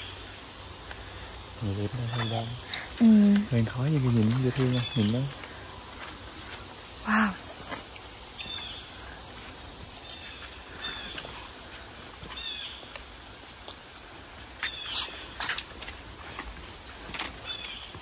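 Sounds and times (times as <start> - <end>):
birds chirping: 0.0 - 13.2, 14.2 - 18.0.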